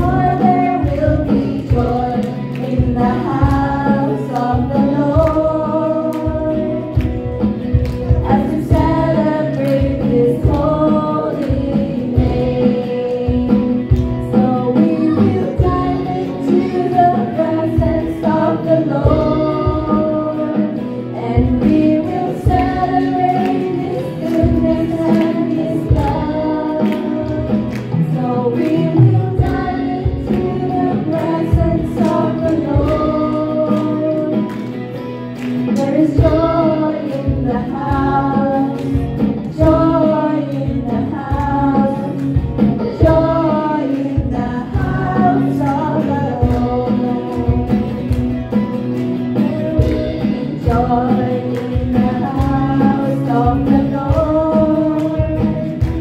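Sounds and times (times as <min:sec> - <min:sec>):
women singing: 0:00.0 - 0:34.8, 0:35.4 - 0:48.4, 0:49.1 - 0:56.0
guitars: 0:00.0 - 0:56.0.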